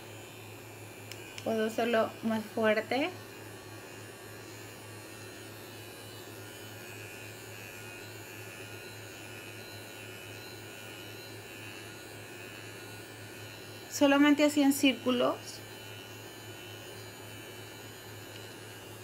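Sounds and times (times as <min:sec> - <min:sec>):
electric brush humming: 0:00.0 - 0:19.0.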